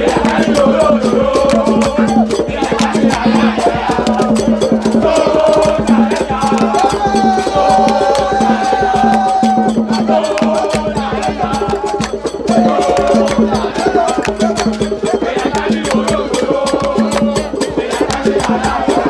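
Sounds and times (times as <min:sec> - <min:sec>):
clicking percussion beat: 0:00.0 - 0:19.0.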